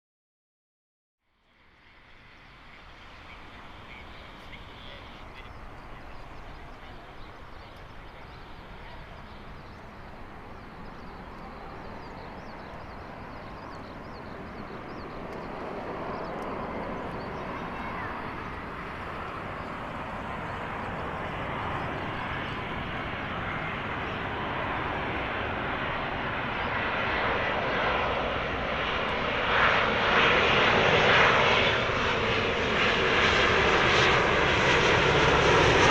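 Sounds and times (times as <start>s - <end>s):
jet engines rushing: 1.6s - 35.9s.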